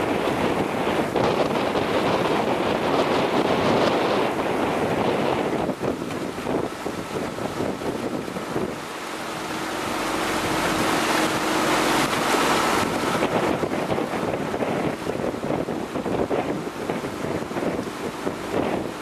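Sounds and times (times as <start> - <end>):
rushing water: 0.0 - 19.0
wind buffeting microphone: 0.0 - 19.0.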